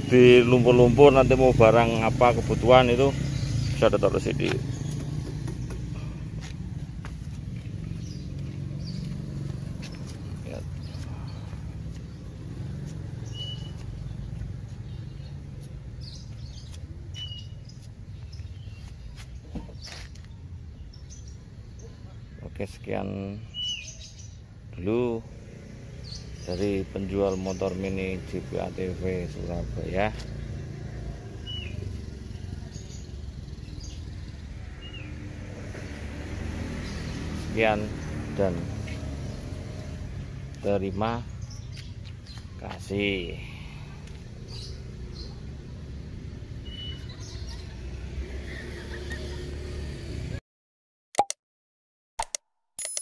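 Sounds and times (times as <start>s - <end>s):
bird chirp: 0.0s - 35.3s, 36.6s - 49.5s.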